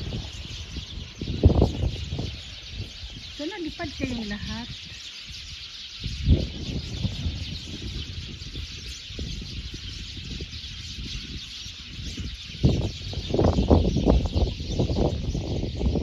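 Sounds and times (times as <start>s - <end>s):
songbirds twittering: 0.0s - 16.0s.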